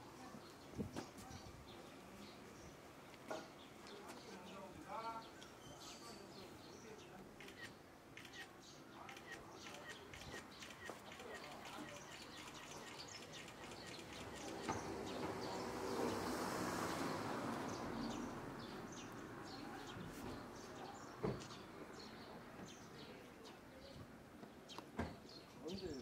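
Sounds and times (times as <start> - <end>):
rush of open-air noise: 0.0 - 26.0
small birds chirping: 0.1 - 26.0.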